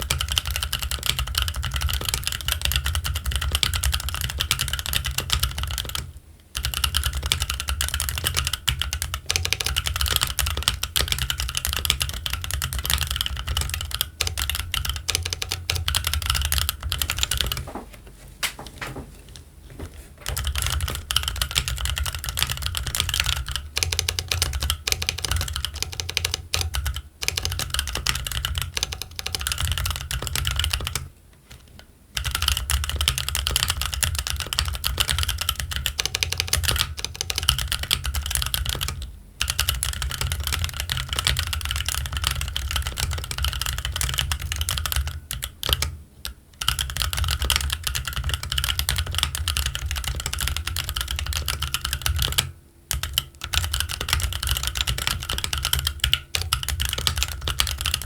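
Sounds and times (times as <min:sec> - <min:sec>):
mechanical keyboard typing: 0:00.0 - 0:17.8, 0:20.2 - 0:58.0.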